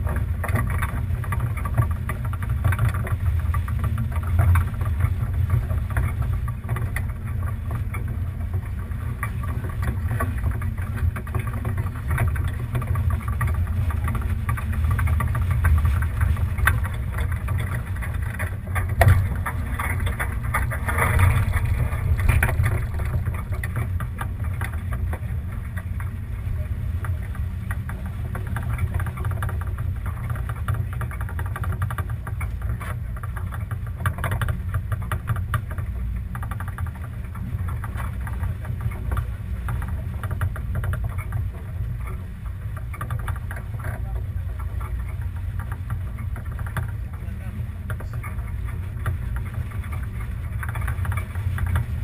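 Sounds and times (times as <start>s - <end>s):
water rushing along hull: 0.0s - 52.0s.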